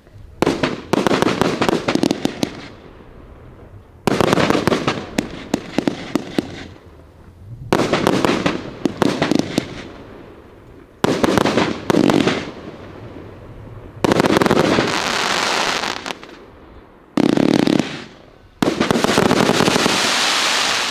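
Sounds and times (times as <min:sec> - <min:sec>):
firework shots: 0:00.0 - 0:02.8, 0:04.0 - 0:16.5, 0:17.1 - 0:20.9
firework crackling and pops: 0:00.0 - 0:20.9.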